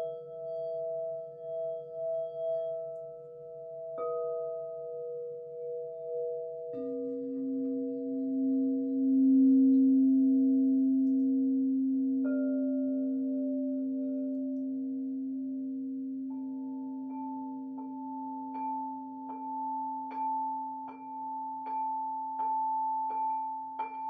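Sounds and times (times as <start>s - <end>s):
deep singing bowl: 0.0s - 24.0s
low wavering tone: 0.0s - 24.0s
singing bowls ringing: 0.0s - 24.0s.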